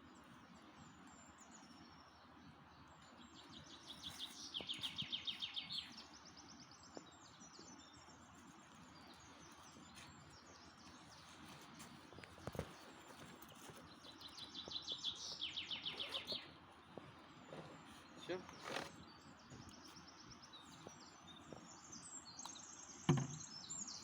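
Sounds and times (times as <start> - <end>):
faint high bird chirps: 0.0 - 11.6, 12.5 - 24.0
songbirds singing: 0.0 - 24.0.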